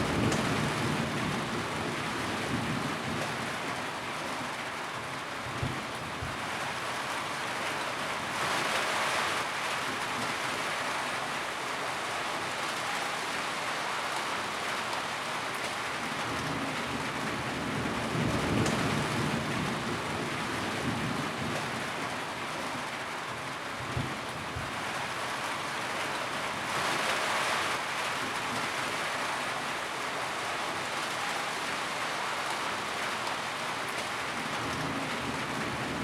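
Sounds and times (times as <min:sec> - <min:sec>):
rain drumming on a tin roof: 0:00.0 - 0:36.0.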